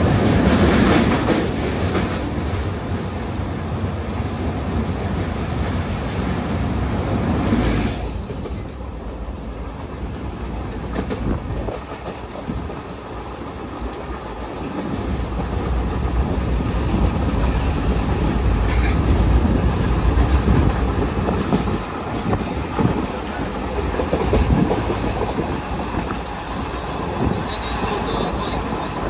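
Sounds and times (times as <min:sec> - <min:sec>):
clickety-clack over rail joints: 0:00.0 - 0:29.0
train wheels rumbling on rails: 0:00.0 - 0:29.0.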